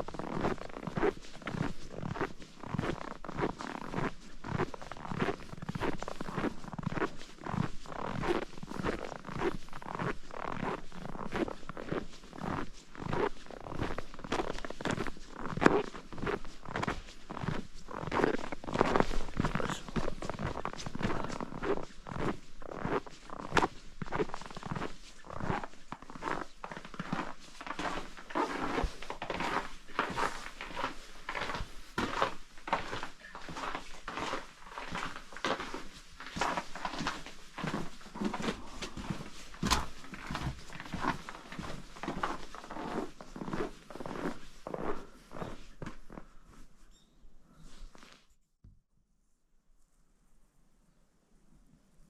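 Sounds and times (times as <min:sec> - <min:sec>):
crunchy footsteps walking: 0:00.0 - 0:46.9.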